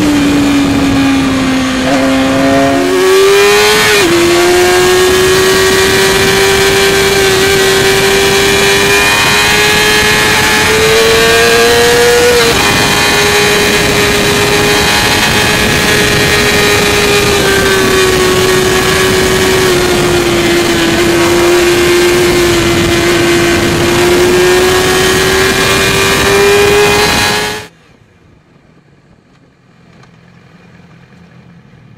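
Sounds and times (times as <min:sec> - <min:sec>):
motorcycle engine at high revs: 0:00.0 - 0:27.7
wind rush: 0:00.0 - 0:29.6.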